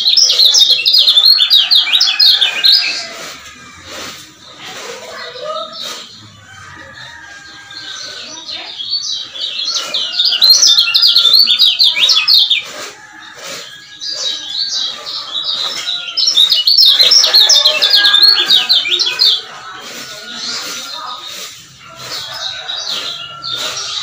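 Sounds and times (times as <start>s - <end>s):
bird warbling song: 0.0s - 6.3s, 7.5s - 24.0s.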